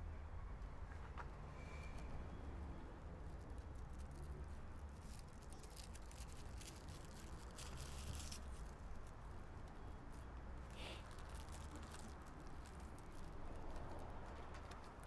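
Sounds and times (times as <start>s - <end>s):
faint crackling rustles: 0.8s - 15.0s.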